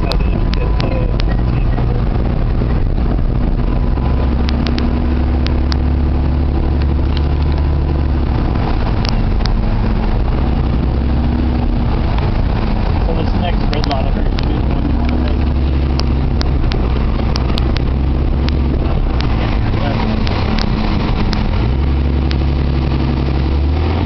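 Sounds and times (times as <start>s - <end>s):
vehicle engine and road drone: 0.0s - 24.0s.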